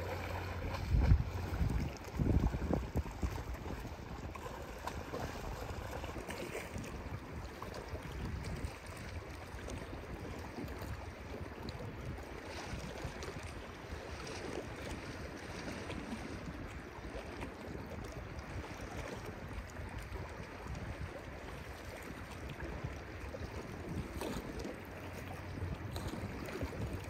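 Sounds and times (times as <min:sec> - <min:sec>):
waves washing and churning: 0:00.0 - 0:27.0
wind rumble on microphone: 0:00.0 - 0:27.0.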